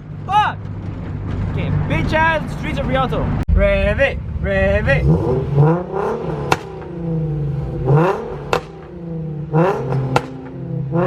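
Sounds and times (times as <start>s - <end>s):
car engine revving: 0.0s - 11.0s
exhaust crack: 0.0s - 11.0s.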